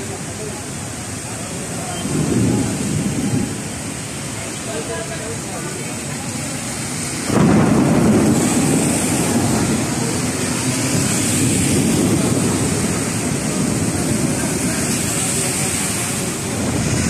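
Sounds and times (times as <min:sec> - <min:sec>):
heavy rain hiss: 0:00.0 - 0:17.0
thunder rumbling: 0:01.0 - 0:17.0.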